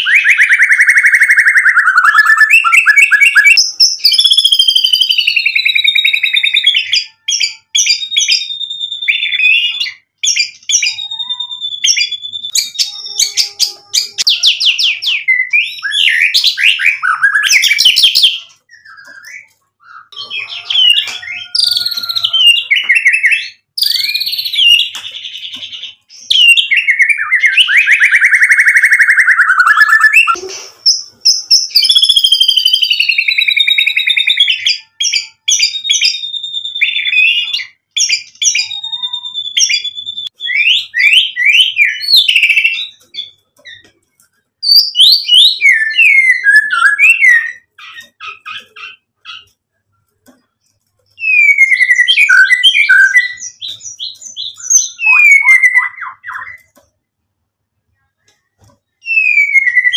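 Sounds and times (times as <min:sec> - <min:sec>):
bird singing whistled phrases: 0:00.0 - 0:25.5, 0:26.2 - 0:43.0, 0:44.6 - 0:49.5, 0:51.2 - 0:56.7, 0:59.0 - 0:59.9.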